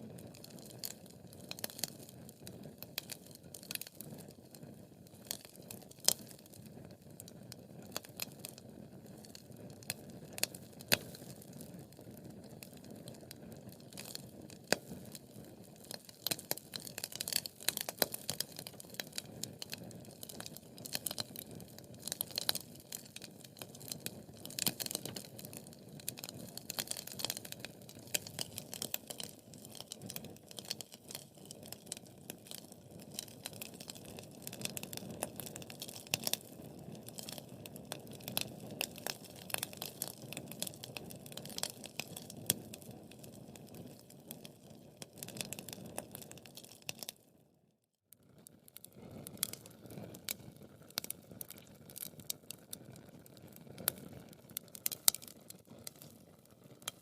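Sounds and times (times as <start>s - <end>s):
burning logs popping: 0.0s - 47.2s, 48.1s - 57.0s.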